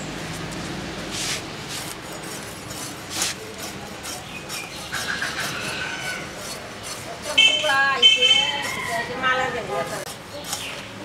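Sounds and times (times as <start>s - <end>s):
knife scraping eel: 1.7s - 10.9s.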